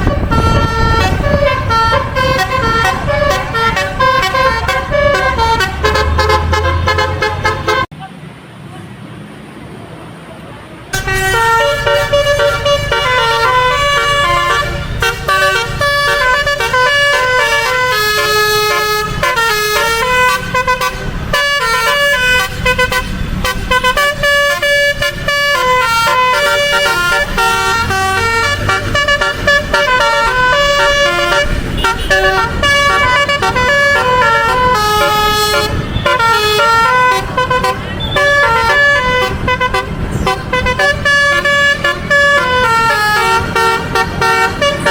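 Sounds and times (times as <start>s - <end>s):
bus multi-tone horn melody: 0.0s - 7.9s, 10.9s - 44.9s
engine and road noise: 0.0s - 44.9s.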